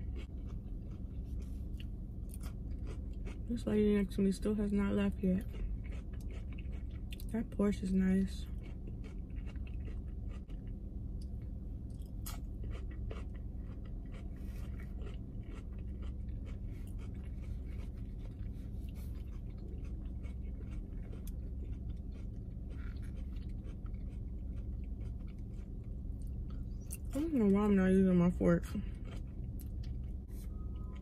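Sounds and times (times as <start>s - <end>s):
person chewing food: 0.0s - 3.5s, 5.4s - 7.3s, 8.4s - 27.2s, 28.7s - 31.0s
low hum inside car: 0.0s - 31.0s.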